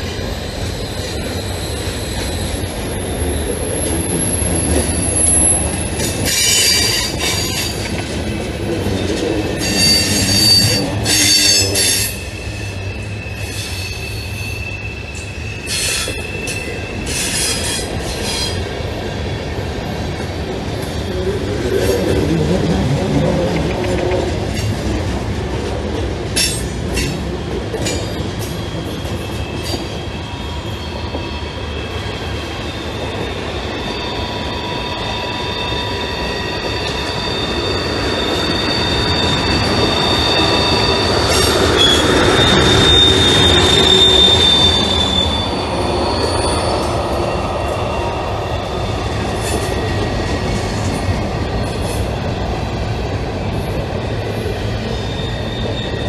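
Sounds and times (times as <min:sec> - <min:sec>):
train wheels rumbling on rail: 0:00.0 - 0:56.0
high wheel squeal: 0:00.1 - 0:18.7, 0:26.4 - 0:52.2, 0:54.5 - 0:56.0.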